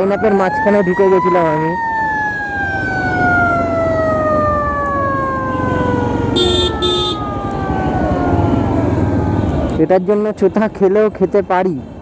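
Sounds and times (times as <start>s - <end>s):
vehicle siren: 0.0s - 10.3s
traffic noise: 0.0s - 12.0s.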